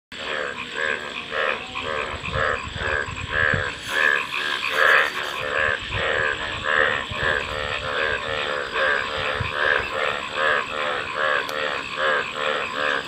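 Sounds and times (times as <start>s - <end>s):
frogs croaking: 0.1s - 13.0s.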